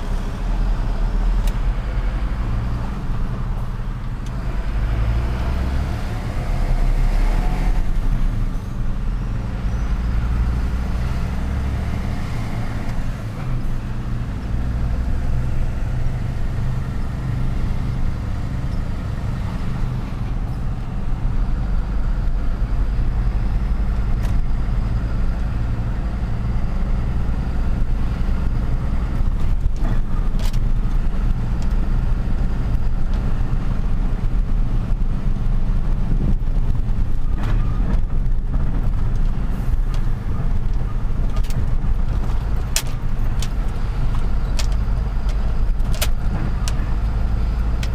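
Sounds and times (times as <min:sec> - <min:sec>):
road noise: 0:00.0 - 0:47.9
truck engine rumbling: 0:00.0 - 0:47.9.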